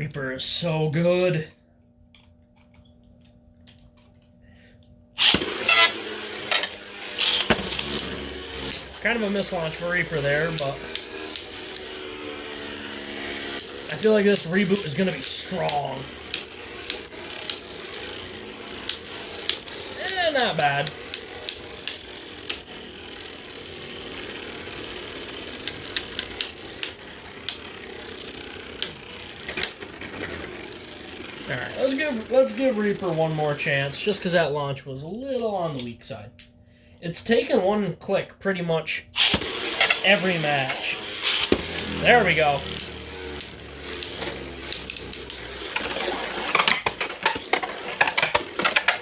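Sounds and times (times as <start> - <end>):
spinning tops whirring: 5.2 - 35.5, 39.1 - 49.0.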